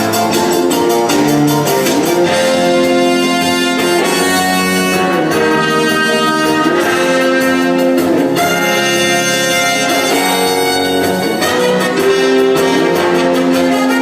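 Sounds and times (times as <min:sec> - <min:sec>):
orchestra playing dance music: 0:00.0 - 0:14.0.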